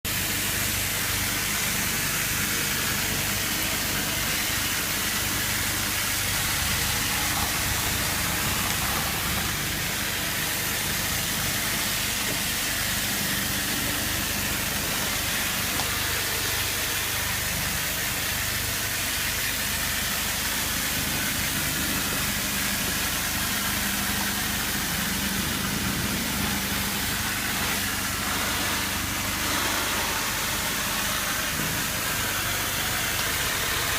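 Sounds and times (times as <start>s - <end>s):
pressure washer engine hum: 0.0s - 33.9s
water spray hiss: 0.1s - 33.9s.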